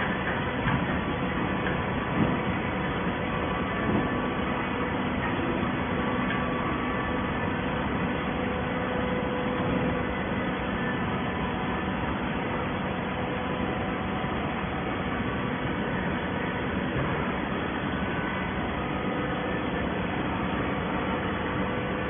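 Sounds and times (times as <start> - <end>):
baler machine hum and hiss: 0.0 - 22.0.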